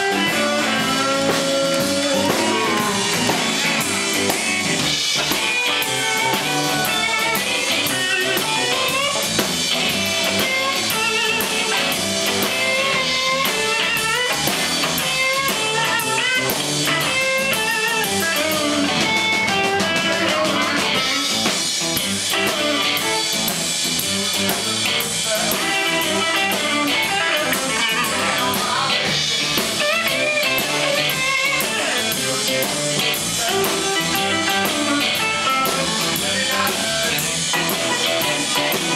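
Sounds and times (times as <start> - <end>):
bass guitar: 0.0 - 38.9
drum kit: 0.0 - 38.9
electric guitar lead lines: 0.0 - 38.9.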